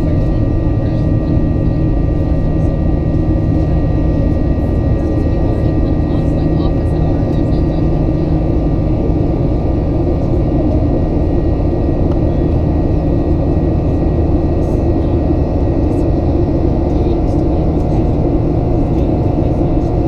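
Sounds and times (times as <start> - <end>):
airplane cabin engine drone: 0.0 - 20.0.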